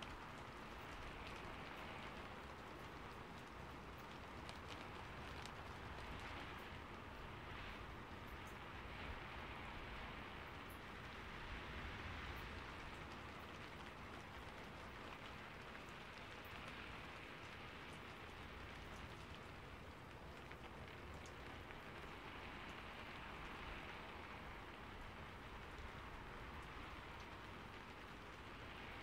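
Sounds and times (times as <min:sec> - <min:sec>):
light rain falling: 0:00.0 - 0:29.0.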